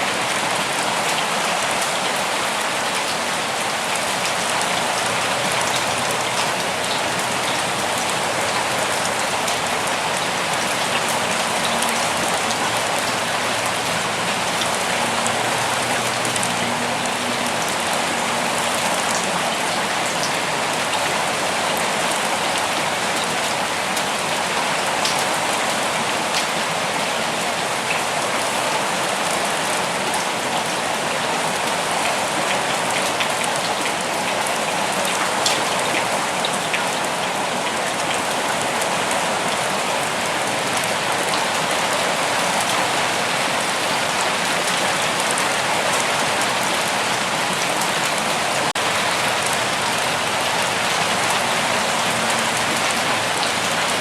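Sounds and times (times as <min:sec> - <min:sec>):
raindrops ticking on surfaces: 0:00.0 - 0:54.0
steady rain hiss: 0:00.0 - 0:54.0.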